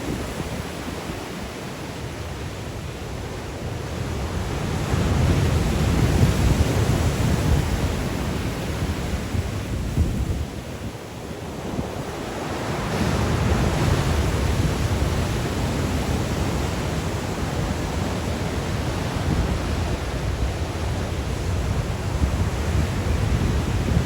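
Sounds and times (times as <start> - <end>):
sea waves breaking: 0.0 - 24.0
wind rumbling on microphone: 0.0 - 24.0.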